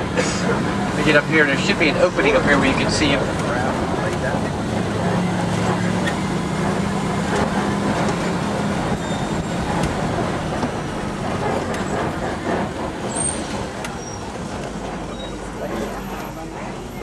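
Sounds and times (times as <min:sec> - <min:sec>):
road noise on dirt track: 0:00.0 - 0:17.0
truck engine humming: 0:00.0 - 0:17.0.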